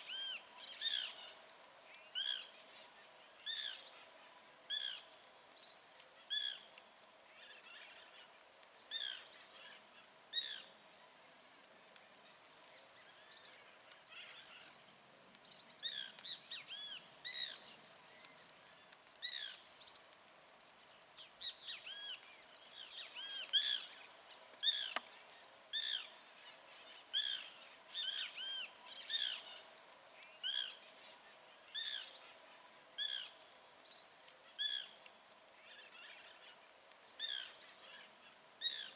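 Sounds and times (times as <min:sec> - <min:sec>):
lower arched bird chirps: 0:00.0 - 0:38.9.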